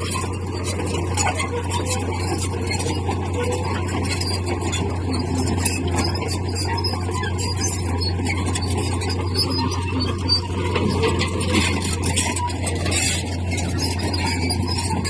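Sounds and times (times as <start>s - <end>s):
bulldozer engine drone: 0.0s - 15.0s
high metallic squeaks: 0.0s - 15.0s.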